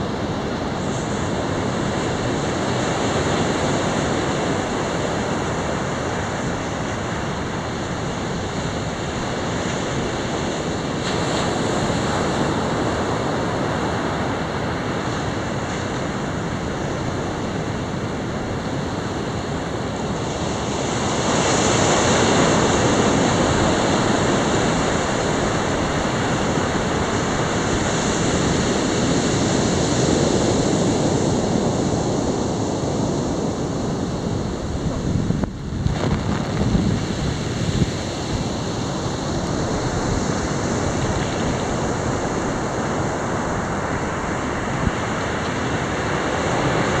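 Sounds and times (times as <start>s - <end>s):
surf washing up a beach: 0.0s - 47.0s.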